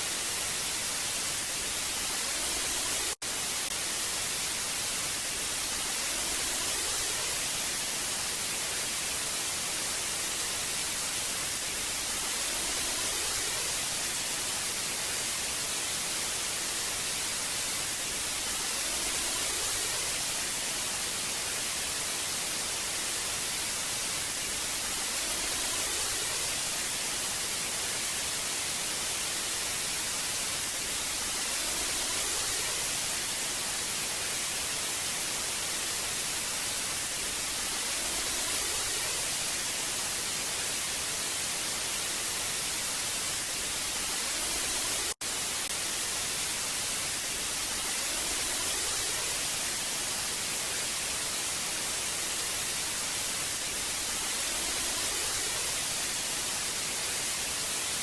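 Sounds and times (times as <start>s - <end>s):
television static hiss: 0.0s - 58.0s.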